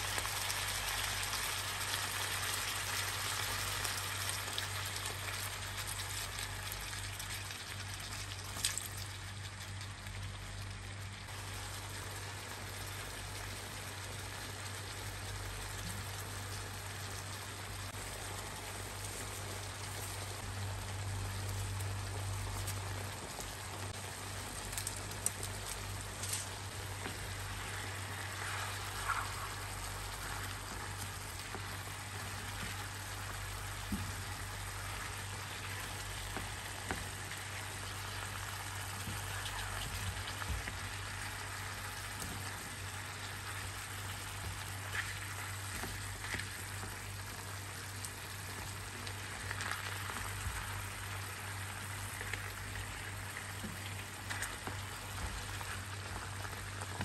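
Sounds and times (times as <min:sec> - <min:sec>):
chicken sizzling in a frying pan: 0:00.0 - 0:57.0.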